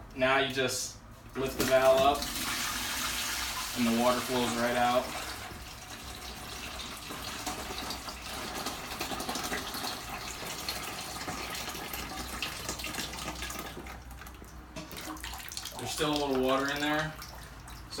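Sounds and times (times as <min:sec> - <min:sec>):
water running out of toilet tank: 0:01.4 - 0:18.0.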